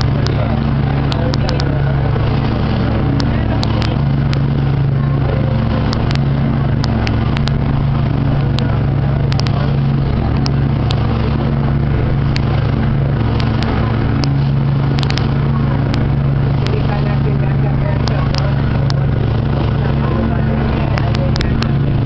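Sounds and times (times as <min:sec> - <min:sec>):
motorboat engine droning: 0:00.0 - 0:22.0.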